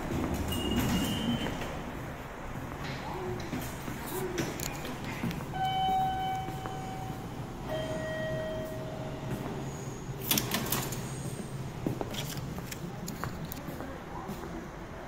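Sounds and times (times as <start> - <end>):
low hum of station ambience: 0.0 - 15.0.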